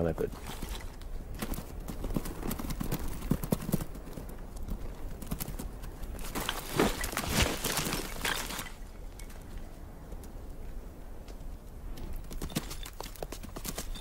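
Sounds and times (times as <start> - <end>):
hooves clattering on rock: 0.0 - 10.6, 11.2 - 14.0.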